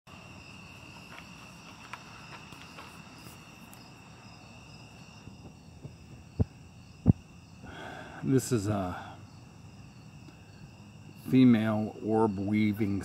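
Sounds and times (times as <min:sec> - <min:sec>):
crickets trilling: 0:00.1 - 0:13.0.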